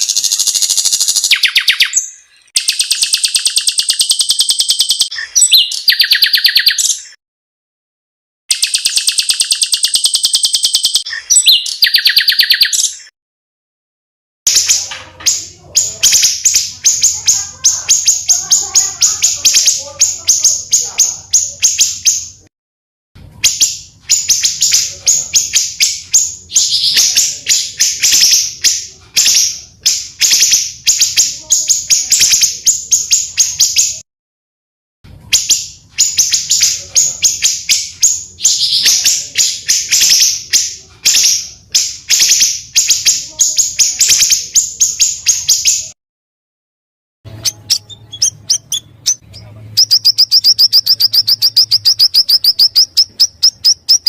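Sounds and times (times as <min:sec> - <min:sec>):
songbirds chattering and trilling: 0:00.0 - 0:07.2, 0:08.5 - 0:13.1, 0:14.5 - 0:22.5, 0:23.4 - 0:34.0, 0:35.3 - 0:46.0, 0:47.3 - 0:54.0.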